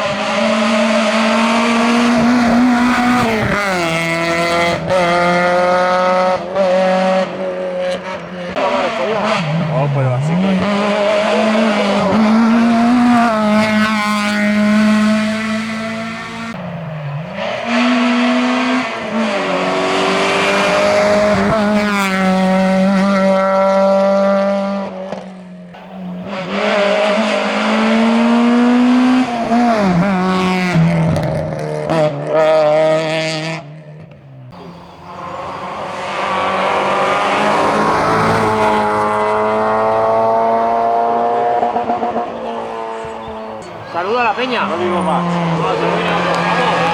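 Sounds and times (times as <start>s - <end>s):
race car engine accelerating: 0.0s - 46.9s.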